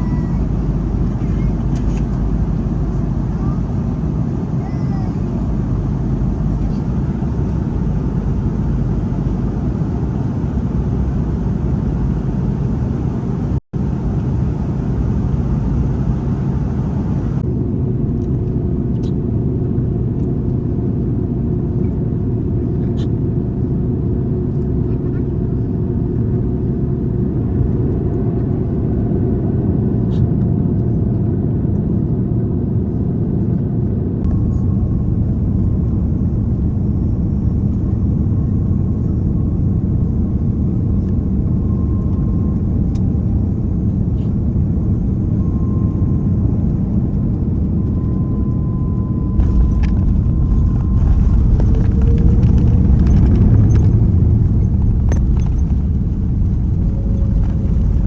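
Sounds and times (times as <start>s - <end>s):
jet cabin engine rumble: 0.0s - 58.0s.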